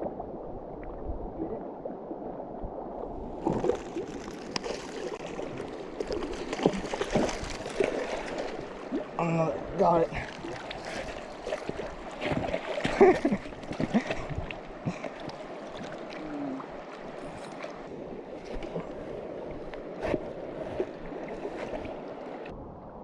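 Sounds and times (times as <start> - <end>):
river water running: 0.0 - 22.6
water splashes: 0.0 - 22.6.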